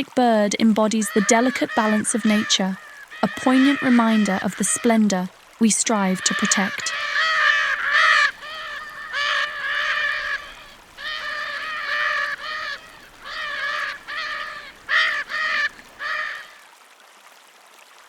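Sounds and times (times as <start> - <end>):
macaw calling: 0.9 - 5.1, 5.9 - 16.6.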